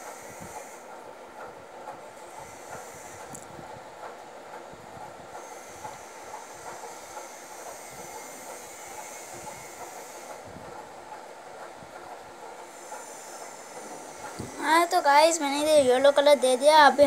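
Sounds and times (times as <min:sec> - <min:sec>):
steady rumble and hiss: 0:00.0 - 0:17.0.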